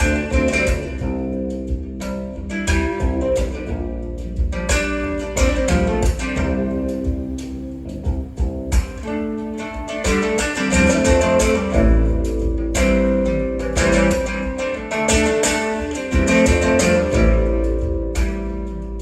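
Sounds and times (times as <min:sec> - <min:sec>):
deep bass line: 0:00.0 - 0:19.0
strummed acoustic guitar: 0:00.0 - 0:19.0.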